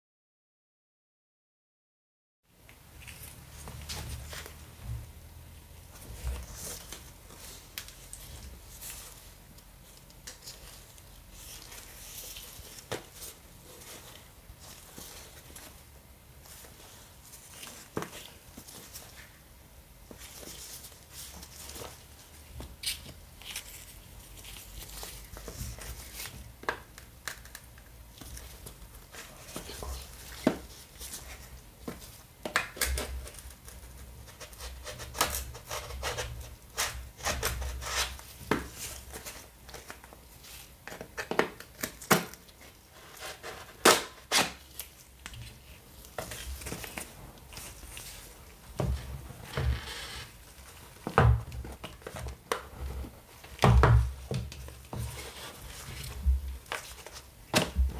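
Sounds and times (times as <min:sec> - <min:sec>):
gloved hands handling cardboard box: 0:05.8 - 0:57.9.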